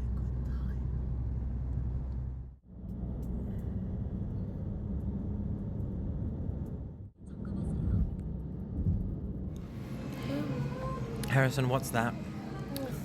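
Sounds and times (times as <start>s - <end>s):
moving vehicle rumble: 0.0s - 11.4s.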